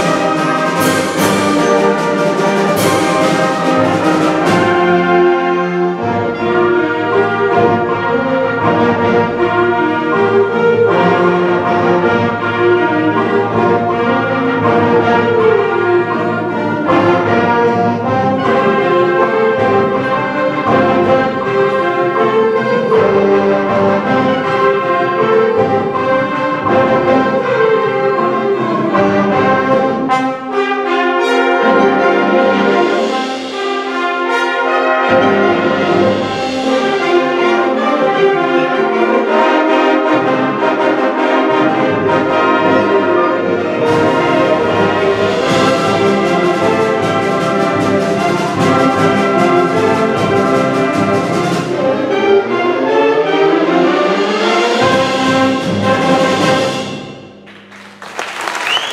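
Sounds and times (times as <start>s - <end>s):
concert band playing: 0.0s - 58.9s.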